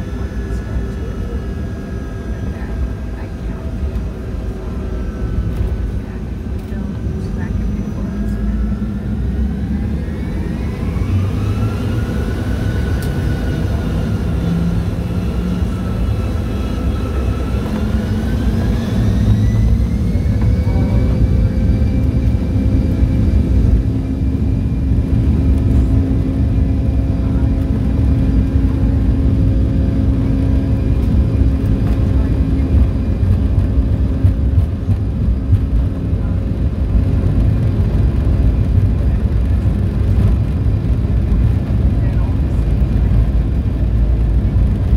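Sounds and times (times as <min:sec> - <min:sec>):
deep rumble of takeoff roll: 0:00.0 - 0:44.9
jet engines spooling up: 0:00.0 - 0:44.9.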